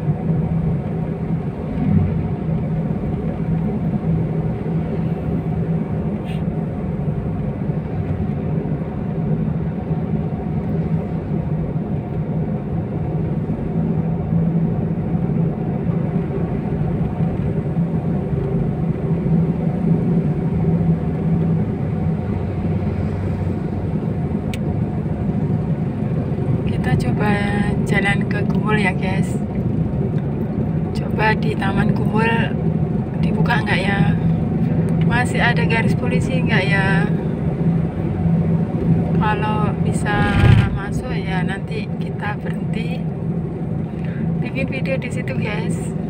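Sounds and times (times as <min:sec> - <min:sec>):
car engine hum: 0:00.0 - 0:46.0
road rumble: 0:00.0 - 0:46.0.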